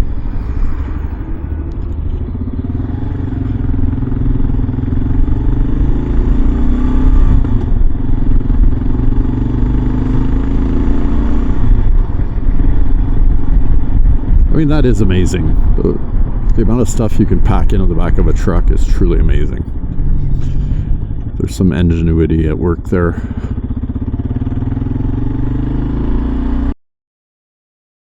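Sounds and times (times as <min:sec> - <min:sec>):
motorcycle engine running: 0:00.0 - 0:26.7
wind and road rumble: 0:00.0 - 0:26.7.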